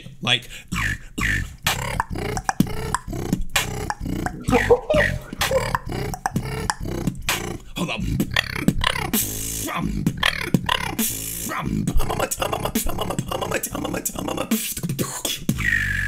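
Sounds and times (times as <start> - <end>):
beatboxing: 0.0 - 16.0.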